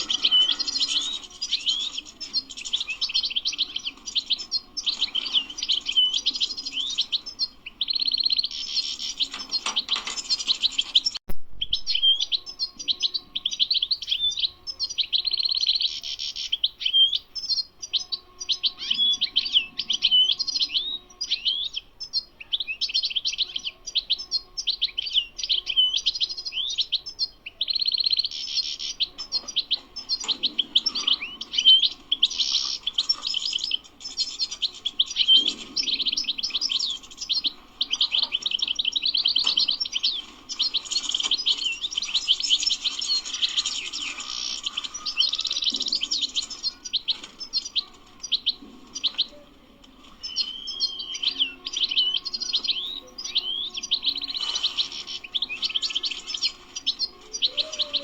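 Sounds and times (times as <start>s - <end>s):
finch twittering song: 0.0s - 58.0s.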